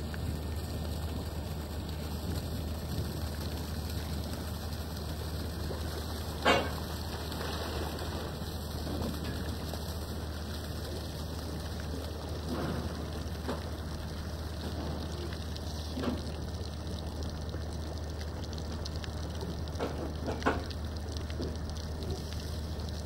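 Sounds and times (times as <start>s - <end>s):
steady low hum: 0.0s - 23.0s
water splashing against a hull: 0.0s - 23.0s.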